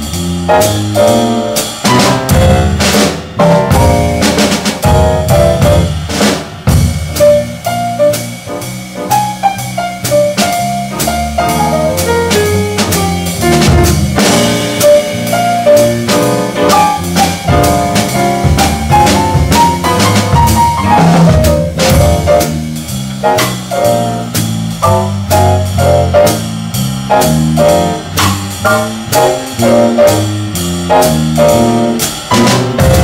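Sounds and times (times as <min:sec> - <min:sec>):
drums and cymbals: 0:00.0 - 0:33.0
piano melody: 0:00.0 - 0:33.0
walking bass line: 0:00.0 - 0:33.0.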